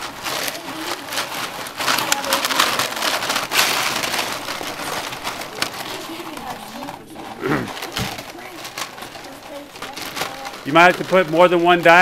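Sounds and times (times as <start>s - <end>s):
ice cubes clattering and crunching: 0.0s - 12.0s.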